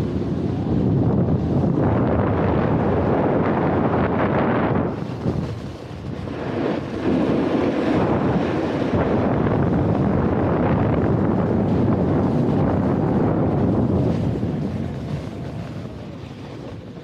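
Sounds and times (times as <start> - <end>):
snowboard sliding over snow: 0.0 - 17.0
wind buffeting microphone: 0.0 - 17.0.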